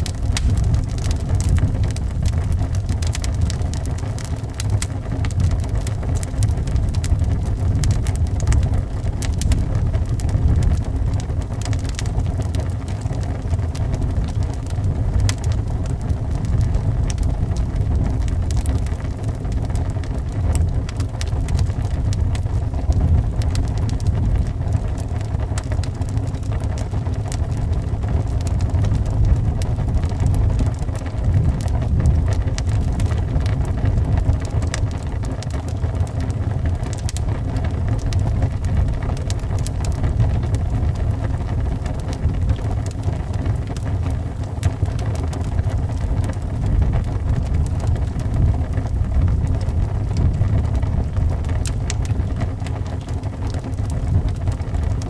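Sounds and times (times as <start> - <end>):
low wind noise: 0.0 - 55.0
wood fire crackling: 0.0 - 55.0.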